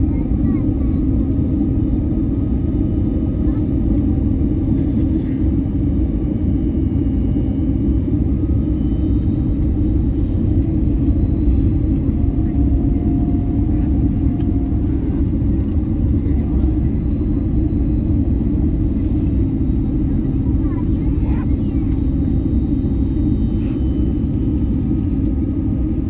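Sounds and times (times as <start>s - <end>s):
airliner engine rumble in cabin: 0.0s - 26.0s
constant low hum: 0.0s - 26.0s.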